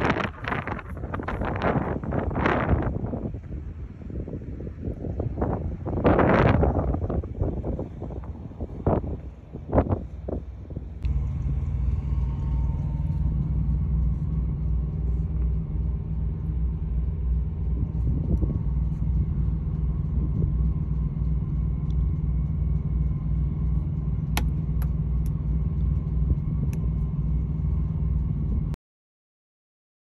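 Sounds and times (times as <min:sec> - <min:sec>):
diesel truck engine idling: 0:00.0 - 0:28.8.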